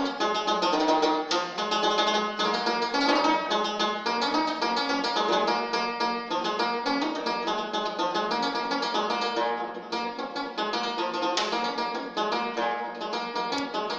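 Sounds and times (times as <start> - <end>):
banjo playing fast melody: 0.0 - 13.9.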